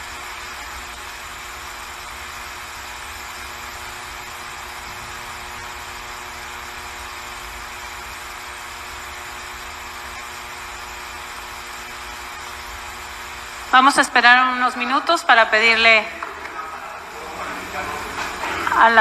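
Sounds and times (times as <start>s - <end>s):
steady hum with hiss: 0.0s - 19.0s.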